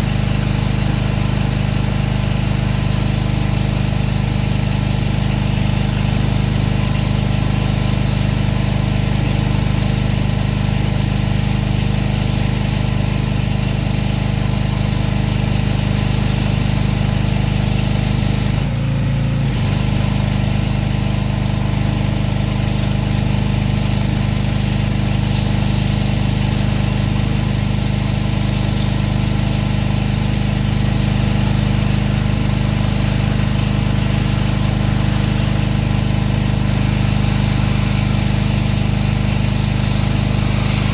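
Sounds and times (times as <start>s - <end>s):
water spray hiss: 0.0s - 18.7s, 19.3s - 40.9s
pressure washer engine running: 0.0s - 40.9s.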